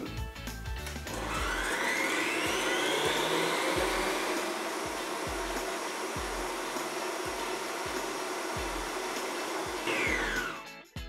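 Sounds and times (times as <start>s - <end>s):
stand mixer motor whine: 1.0s - 10.7s
whisk beating eggs: 1.1s - 10.6s.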